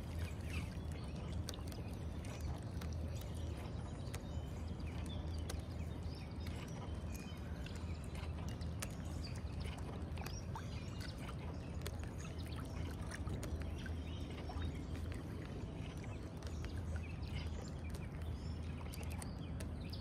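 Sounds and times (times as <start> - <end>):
steady low rumble: 0.0 - 20.0
waves lapping against a boat: 0.0 - 20.0.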